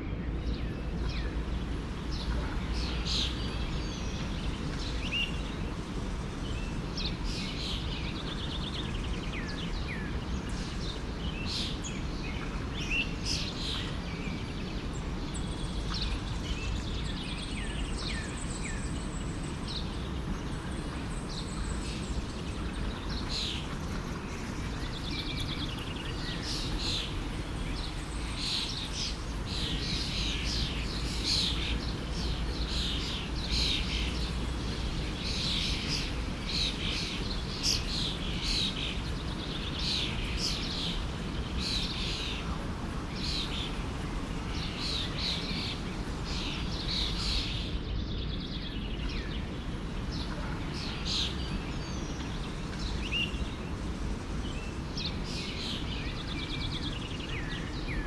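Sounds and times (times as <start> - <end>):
songbirds chirping: 0.0 - 58.0
stream rushing: 0.8 - 23.6, 24.6 - 47.8, 48.8 - 58.0.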